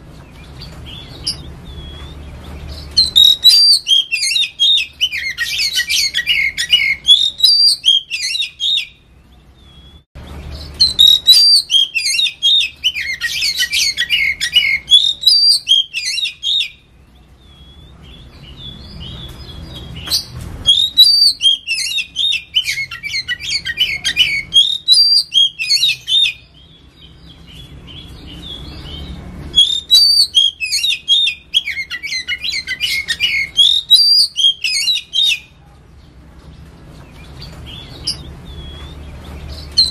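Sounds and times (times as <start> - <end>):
songbird singing whistled notes: 0.2 - 35.6, 37.0 - 39.9.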